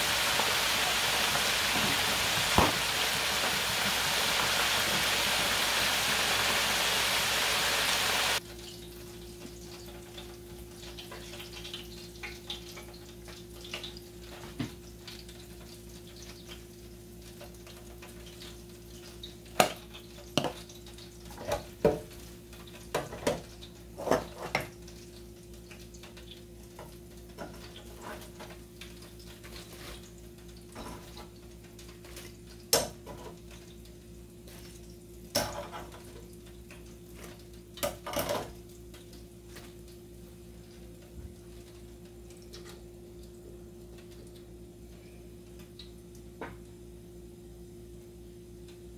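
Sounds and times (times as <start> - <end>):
chicken wings sizzling in oil: 0.0 - 47.0.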